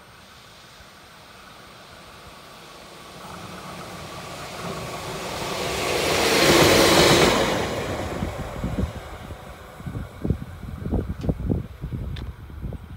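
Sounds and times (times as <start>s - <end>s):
locomotive engine passing: 0.0s - 11.9s
train wheels on rails: 0.0s - 12.9s.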